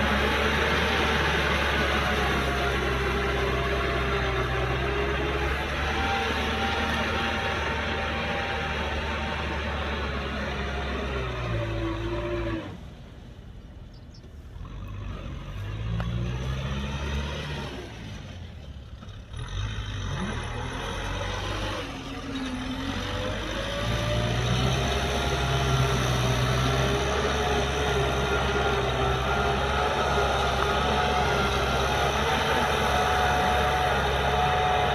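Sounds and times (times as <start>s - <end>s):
tractor diesel engine revving: 0.0s - 13.4s, 14.5s - 34.9s.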